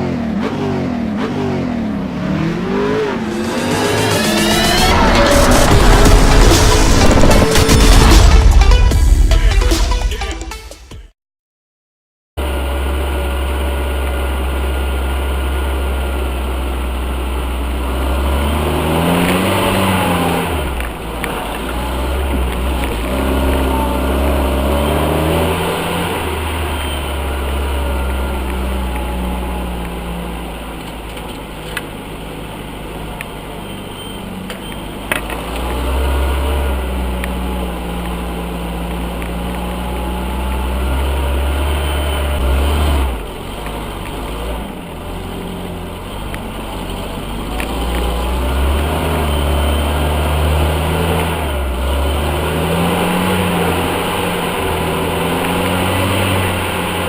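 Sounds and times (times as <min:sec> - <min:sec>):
engine revving: 0:00.0 - 0:08.4, 0:12.4 - 0:31.2, 0:35.1 - 0:57.0.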